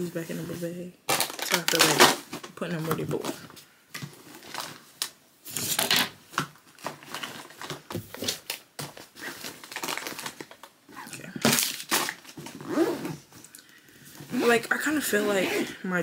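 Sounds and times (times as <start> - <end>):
plastic packaging rustling: 0.0 - 13.5.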